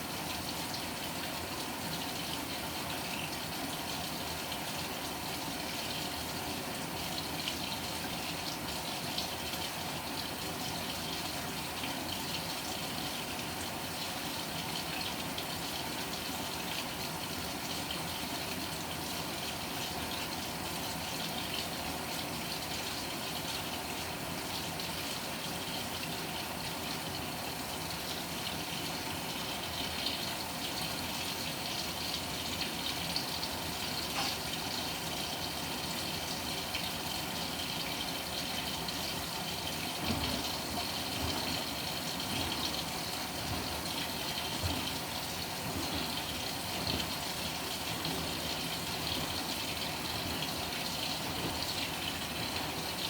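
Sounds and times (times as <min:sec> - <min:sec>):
water splashing in washing machine: 0:00.0 - 0:53.0.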